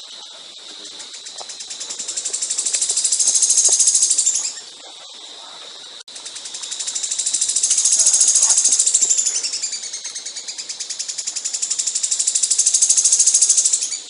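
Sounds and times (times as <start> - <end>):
songbird trilling: 1.1 - 5.1, 6.2 - 14.0.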